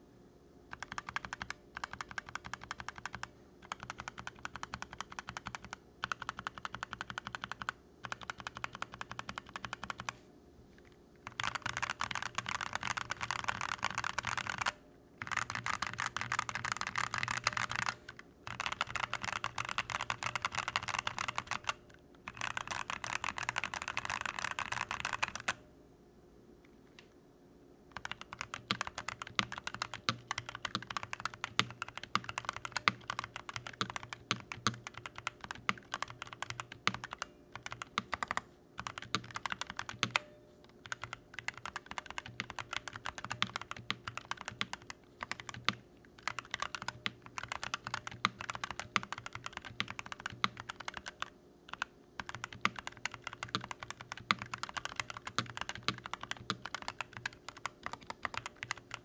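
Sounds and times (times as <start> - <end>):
mechanical keyboard typing: 0.7 - 10.2, 11.2 - 25.6, 27.9 - 59.0.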